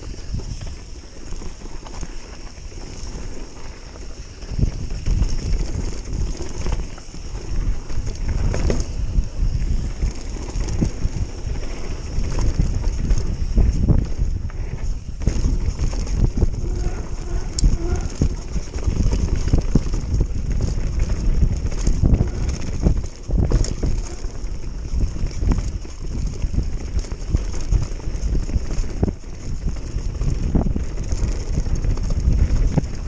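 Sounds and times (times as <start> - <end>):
wind buffeting microphone: 0.0 - 33.0
tyres rumbling over dirt: 0.1 - 33.0
bike knocks and rattles: 4.4 - 33.0.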